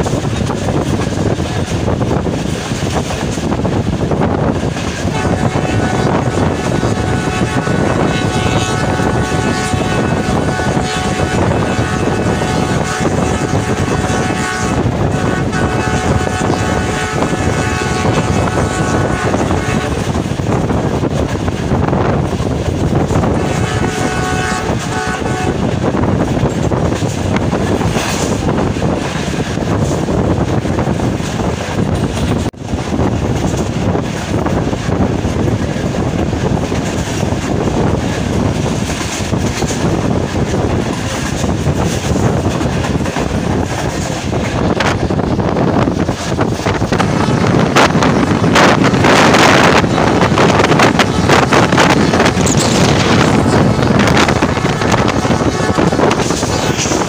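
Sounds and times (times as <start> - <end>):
train coaches rumbling: 0.0 - 57.0.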